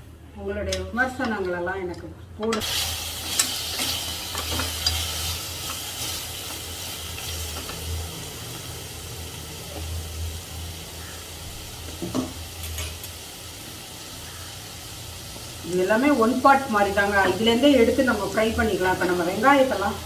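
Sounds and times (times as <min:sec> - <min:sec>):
spices sizzling in hot oil: 0:02.6 - 0:20.0.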